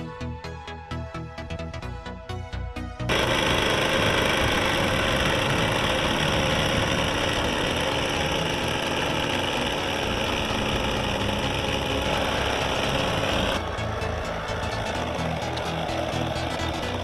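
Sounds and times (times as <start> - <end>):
model plane engine idling: 3.1 - 17.0.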